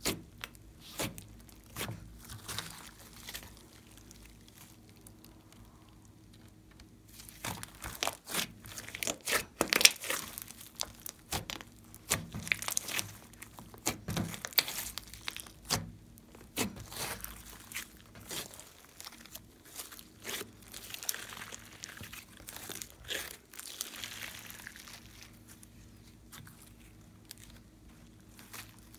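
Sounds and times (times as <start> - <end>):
slime crackling stretch: 0.0 - 28.9.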